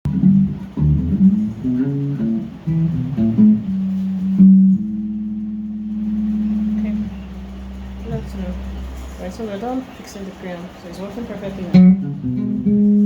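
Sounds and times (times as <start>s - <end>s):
electric bass guitar notes: 0.0s - 10.0s, 11.3s - 13.0s.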